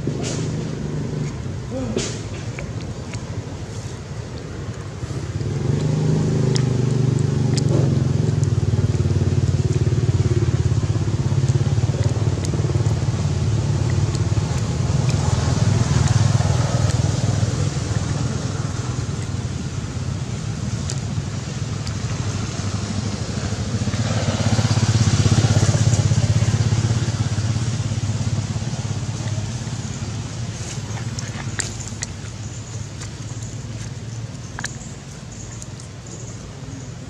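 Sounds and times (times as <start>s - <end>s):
vehicle engine running: 3.0s - 37.0s.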